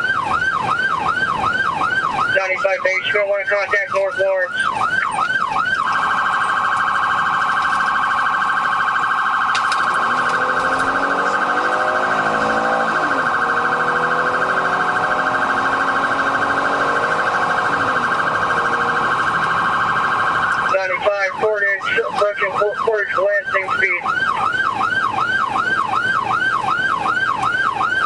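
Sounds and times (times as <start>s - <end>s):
faint wailing siren: 0.0s - 28.0s
police siren yelp: 0.0s - 28.0s.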